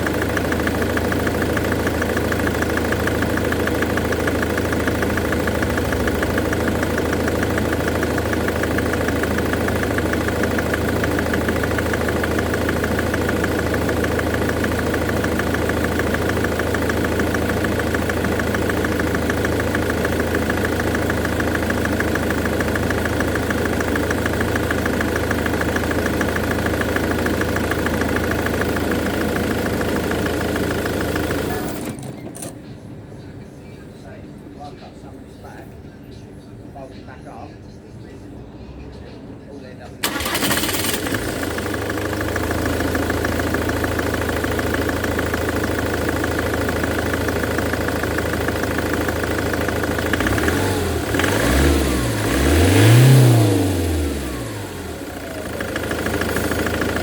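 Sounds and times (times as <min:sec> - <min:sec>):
car engine idling with ticking: 0:00.0 - 0:31.8, 0:40.0 - 0:57.0.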